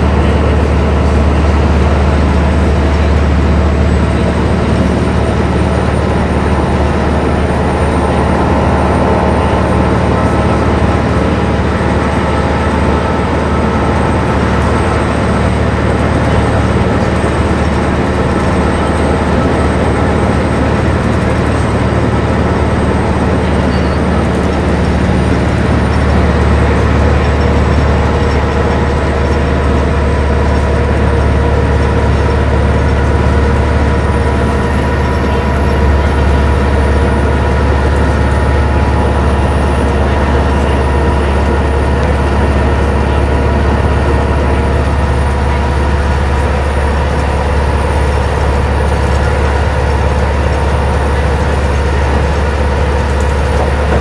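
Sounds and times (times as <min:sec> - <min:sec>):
diesel bus engine drone: 0:00.0 - 0:54.0
road and tyre noise: 0:00.0 - 0:54.0.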